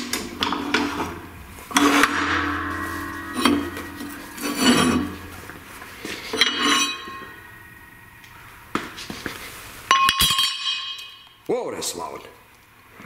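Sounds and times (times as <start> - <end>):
metal plates clanking and ringing: 0.0 - 9.1, 9.9 - 11.4.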